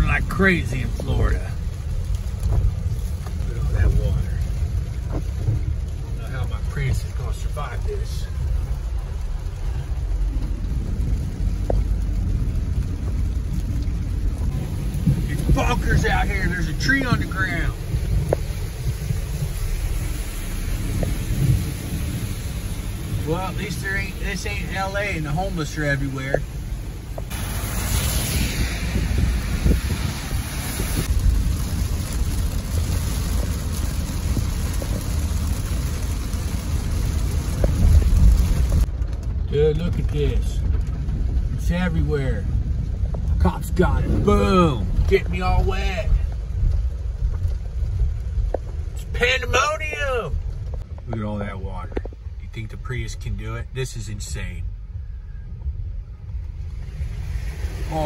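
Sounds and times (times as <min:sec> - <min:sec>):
car tyres rumbling through water: 0:00.0 - 0:58.0
heavy rain on car: 0:00.0 - 0:58.0.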